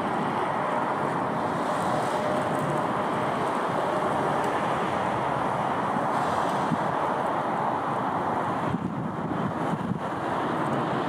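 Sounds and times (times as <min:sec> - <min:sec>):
distant radial engines running: 0:00.0 - 0:11.0.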